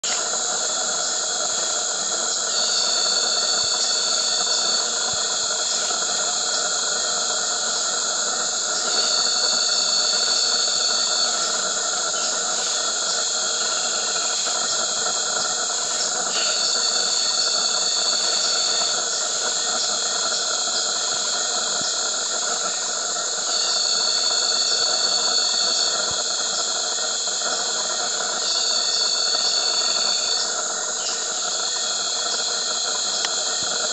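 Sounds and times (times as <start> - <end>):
insect chorus drone: 0.0 - 33.9
loud high insect whine: 0.0 - 33.9.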